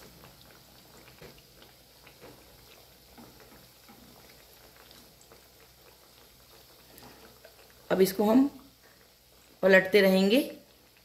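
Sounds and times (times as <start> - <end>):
deep-frying sizzle with pops: 0.0 - 11.0.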